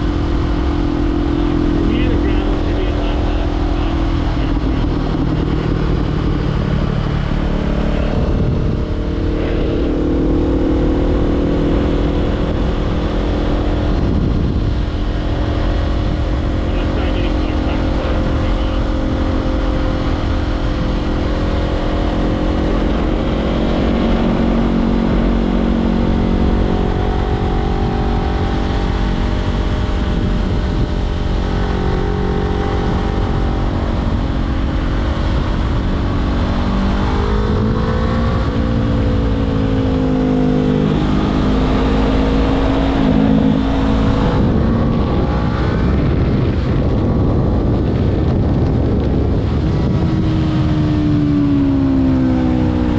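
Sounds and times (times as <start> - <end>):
motorcycle engine: 0.0 - 52.9
wind rush: 0.0 - 52.9.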